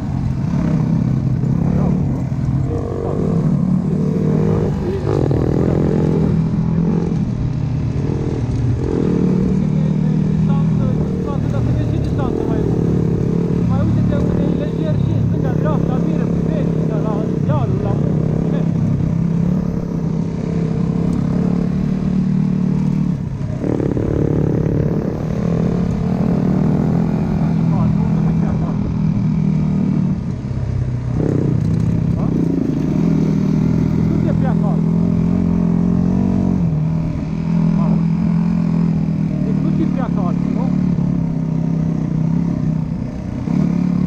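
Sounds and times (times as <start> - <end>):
dirt bike engine running: 0.0 - 44.0.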